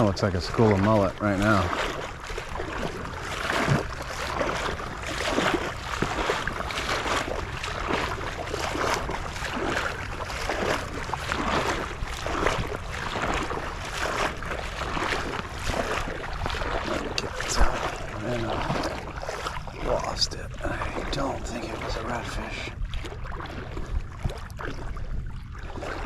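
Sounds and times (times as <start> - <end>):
legs sloshing through water: 0.0 - 26.0
wind on microphone: 0.0 - 26.0.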